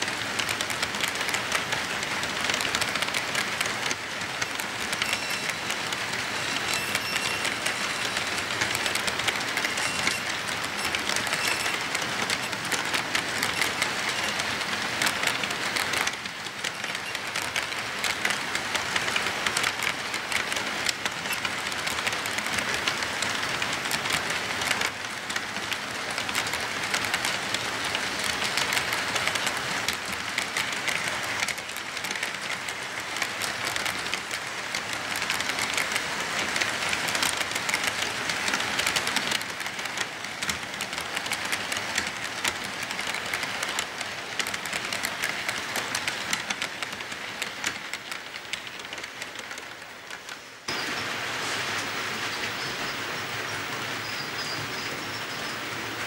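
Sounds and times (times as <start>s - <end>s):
model train cars rattling on track: 0.0s - 56.0s.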